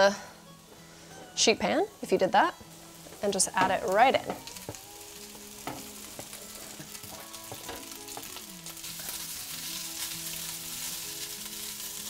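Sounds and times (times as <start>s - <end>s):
soft background music: 0.0s - 12.0s
rice sizzling in hot oil: 1.4s - 12.0s.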